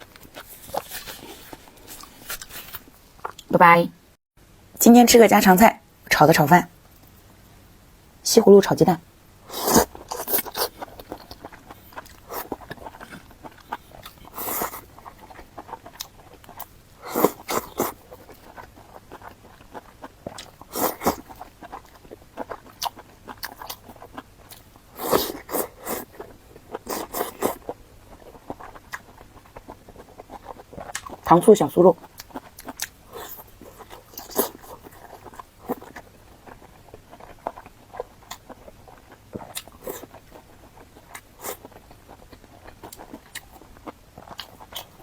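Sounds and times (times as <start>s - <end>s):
crunchy chewing: 0.0s - 3.5s, 9.5s - 45.0s.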